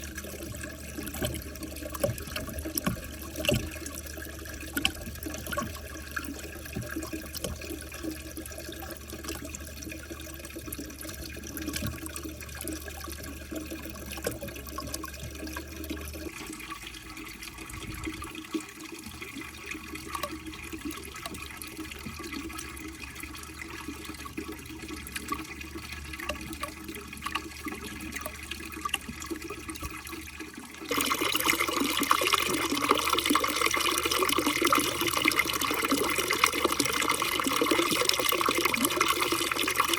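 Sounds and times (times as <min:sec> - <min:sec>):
water running through marble run: 0:00.0 - 0:39.9.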